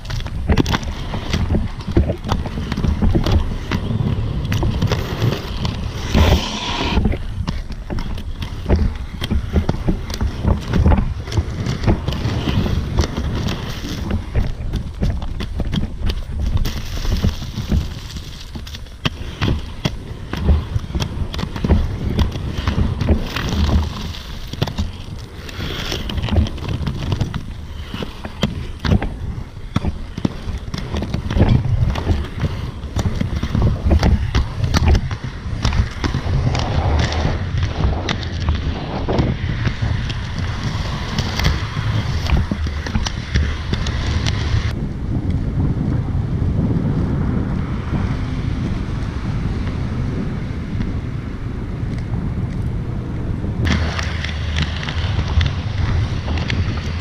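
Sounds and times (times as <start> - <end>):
inline skates rolling on pavement: 0.0 - 57.0
skates clicking and clattering: 0.0 - 57.0
wind buffeting microphone: 0.0 - 57.0.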